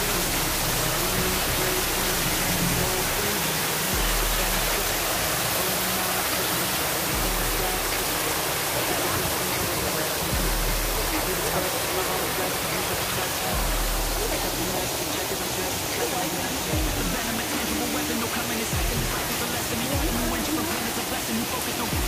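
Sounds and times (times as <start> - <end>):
background music with deep bass: 0.0 - 22.0
water falling down waterfall: 0.0 - 22.0.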